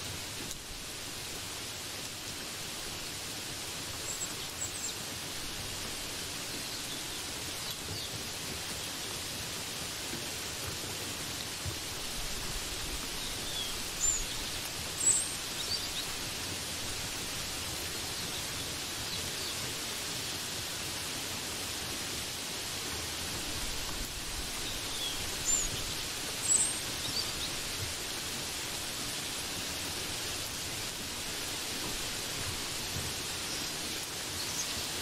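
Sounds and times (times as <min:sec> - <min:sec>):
rain hissing: 0:00.0 - 0:35.0.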